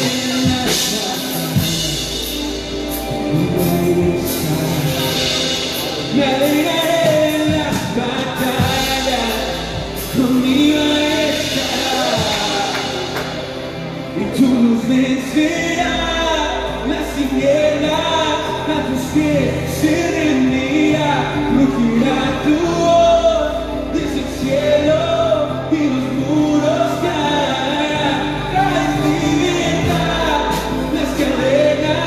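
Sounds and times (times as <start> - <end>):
band with guitars: 0.0 - 32.0
man singing lead: 0.0 - 32.0.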